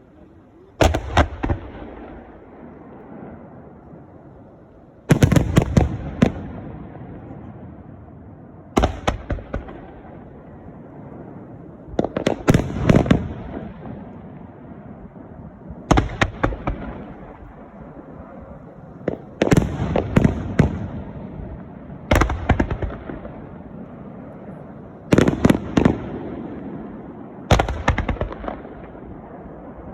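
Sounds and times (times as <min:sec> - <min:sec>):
fireworks bursting: 0:00.0 - 0:04.1, 0:04.8 - 0:29.9
low rumbling echo: 0:00.0 - 0:29.9.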